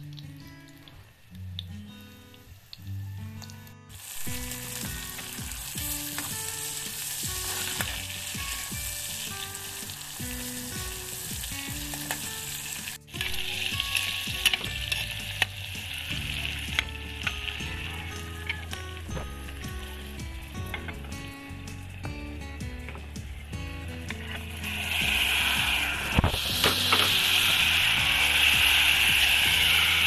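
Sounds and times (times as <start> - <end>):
background music: 0.0 - 30.0
food sizzling in a pan: 0.0 - 30.0.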